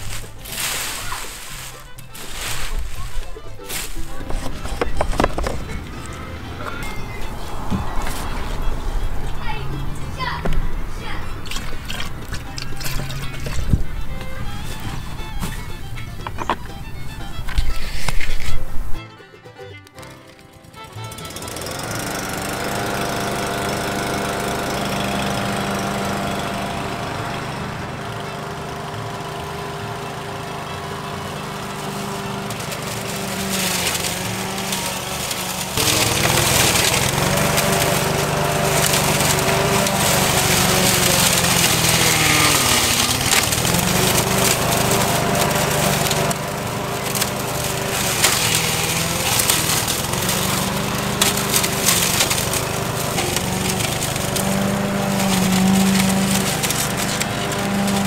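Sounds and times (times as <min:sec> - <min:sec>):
mower blade chopping weeds: 0:00.0 - 0:19.1, 0:19.9 - 0:58.0
lawn mower engine running: 0:00.0 - 0:58.0.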